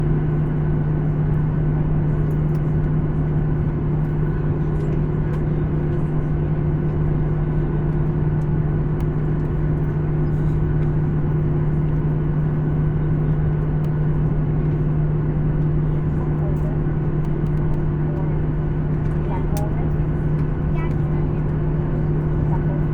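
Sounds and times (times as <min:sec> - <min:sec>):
aircraft cabin hum: 0:00.0 - 0:22.9.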